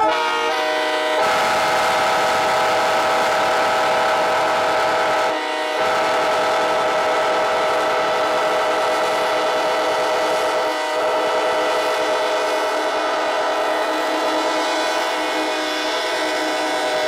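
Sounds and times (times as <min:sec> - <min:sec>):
locomotive air horns chord: 0:00.0 - 0:17.0.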